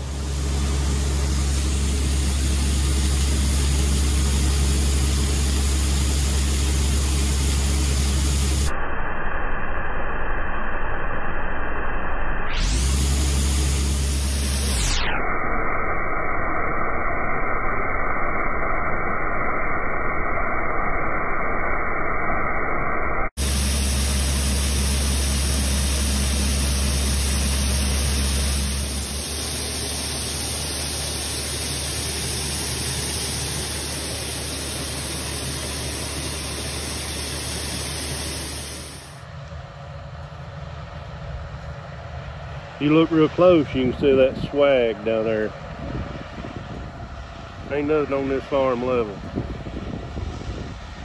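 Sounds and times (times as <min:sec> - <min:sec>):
low machinery hum: 0:00.0 - 0:15.4, 0:23.4 - 0:51.0.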